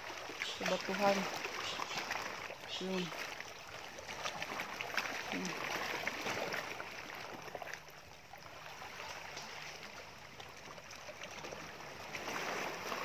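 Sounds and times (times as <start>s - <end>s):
small ticks and splashes: 0.0s - 13.0s
water lapping against rocks: 0.0s - 13.0s.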